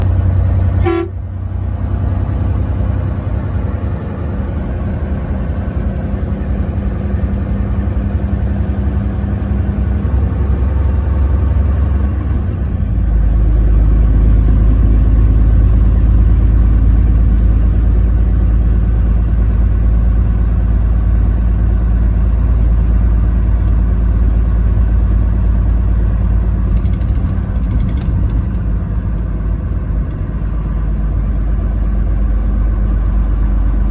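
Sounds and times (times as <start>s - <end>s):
truck engine and road rumble: 0.0s - 33.9s.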